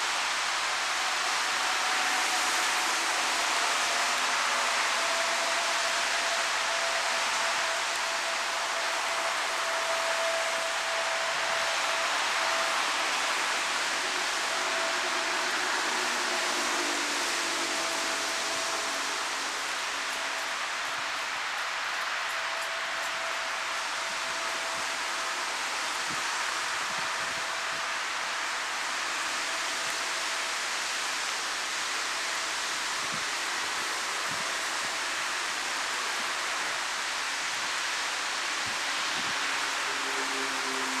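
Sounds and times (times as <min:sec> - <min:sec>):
electric train hum: 0:00.0 - 0:41.0
rain hiss: 0:00.0 - 0:41.0.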